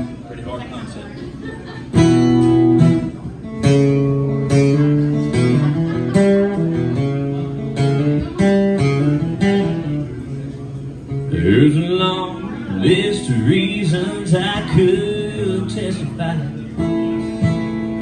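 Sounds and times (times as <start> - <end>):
acoustic guitar strumming: 1.8 - 18.0.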